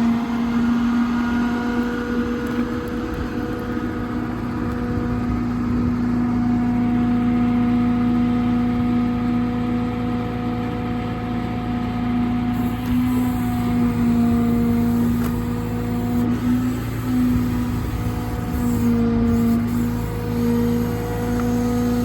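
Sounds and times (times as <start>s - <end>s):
hydraulic humming whine: 0.0s - 9.6s, 11.9s - 22.0s
diesel engine rumble: 0.0s - 22.0s.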